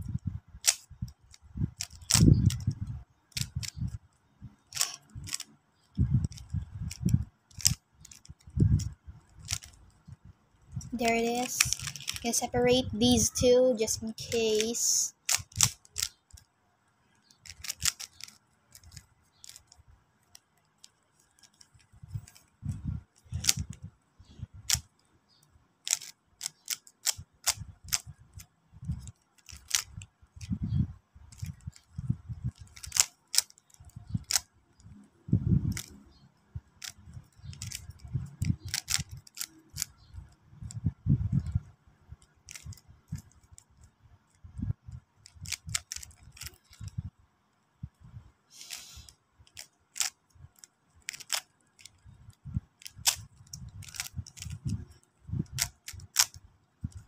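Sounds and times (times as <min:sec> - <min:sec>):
puzzle cube plastic clicks: 0:00.0 - 0:16.5, 0:17.2 - 0:23.9, 0:24.5 - 0:30.7, 0:31.3 - 0:47.1, 0:48.6 - 0:57.0.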